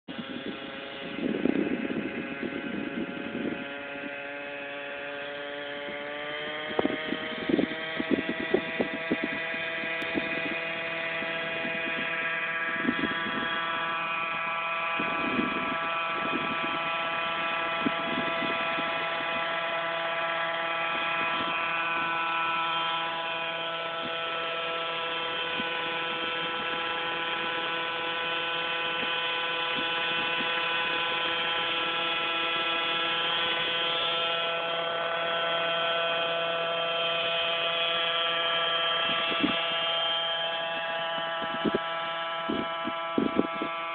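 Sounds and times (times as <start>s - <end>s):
model helicopter rotor whine: 0.0s - 43.9s.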